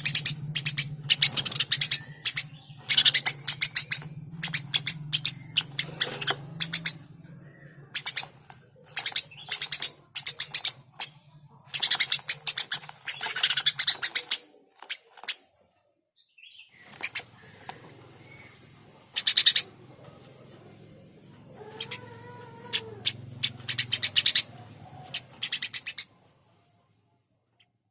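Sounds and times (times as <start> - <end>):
sparrow chirping: 0.0 - 26.2.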